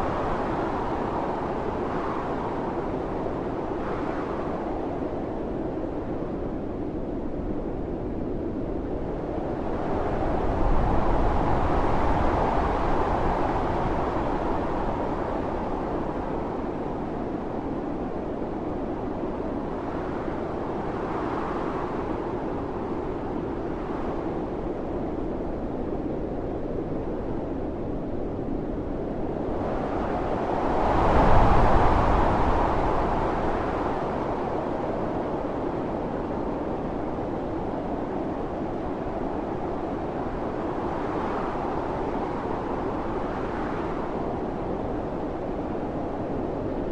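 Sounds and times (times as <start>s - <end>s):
howling blizzard wind: 0.0s - 46.9s.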